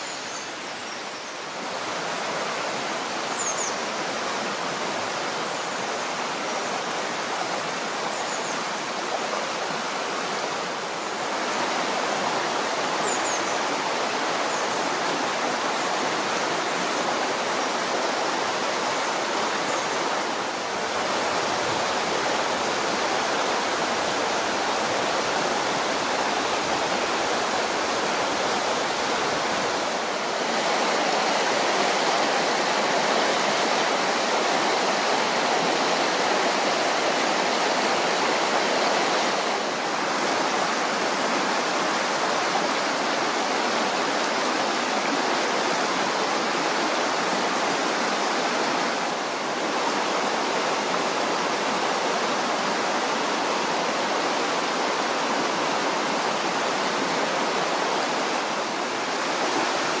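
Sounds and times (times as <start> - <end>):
river rushing over rocks: 0.0 - 60.0.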